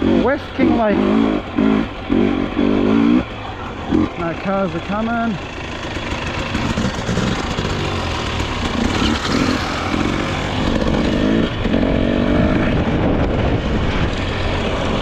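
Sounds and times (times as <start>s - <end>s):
dirt bike engine revving: 0.0s - 15.0s
wind: 0.0s - 15.0s.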